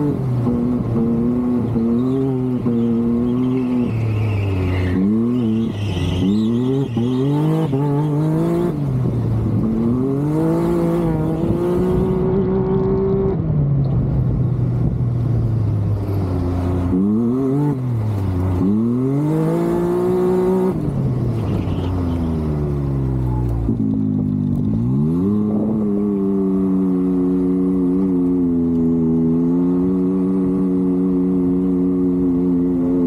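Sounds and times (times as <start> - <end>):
engine revving: 0.0 - 13.6, 15.8 - 33.0.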